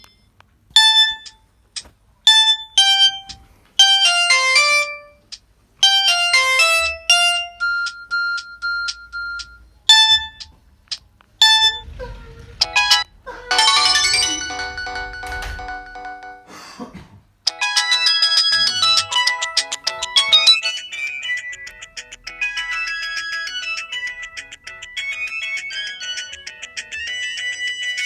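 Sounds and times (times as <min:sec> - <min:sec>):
synthesized ringtone melody: 0:00.8 - 0:01.4, 0:02.3 - 0:05.2, 0:05.8 - 0:10.5, 0:11.4 - 0:11.9, 0:12.6 - 0:16.5, 0:17.5 - 0:28.0.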